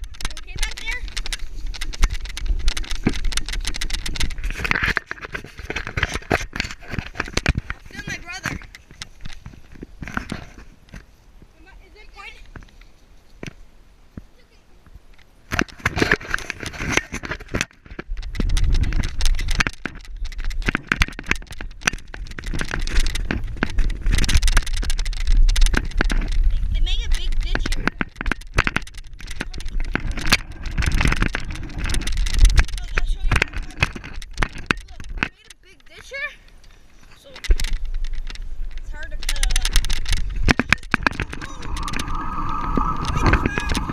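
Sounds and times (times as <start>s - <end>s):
wind on microphone: 0.0s - 10.8s, 14.9s - 35.3s, 37.4s - 43.9s
rapid clicks and rattles: 0.0s - 11.0s, 15.5s - 36.6s, 37.2s - 43.9s.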